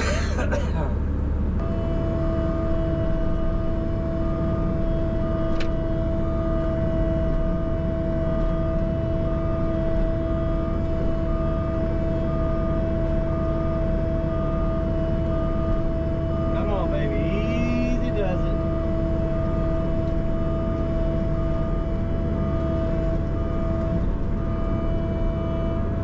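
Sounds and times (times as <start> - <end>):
excavator diesel engine running: 0.0 - 26.0
steady whine: 0.0 - 26.0.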